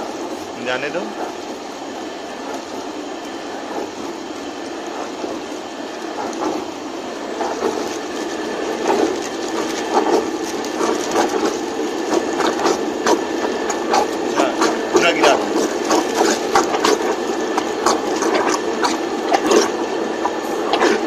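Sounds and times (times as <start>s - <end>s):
mixer stirring liquid: 0.0s - 21.0s.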